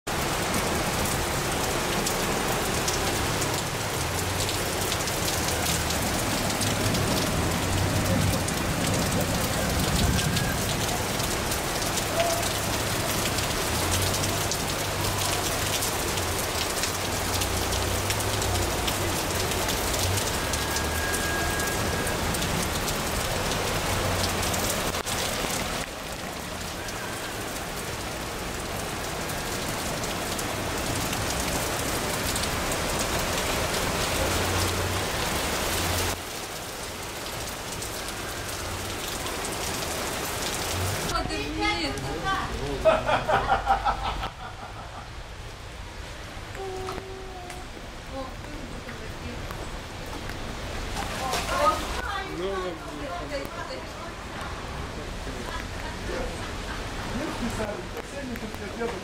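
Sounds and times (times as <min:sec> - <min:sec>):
heavy rain pouring: 0:00.1 - 0:59.0.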